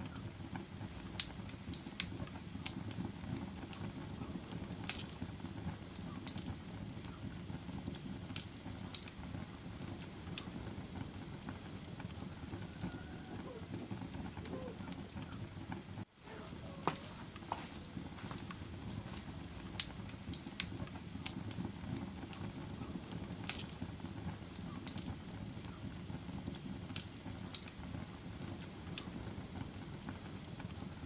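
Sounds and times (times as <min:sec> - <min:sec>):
fire crackling and popping: 0:00.0 - 0:31.0
fire rumbling: 0:00.0 - 0:31.0.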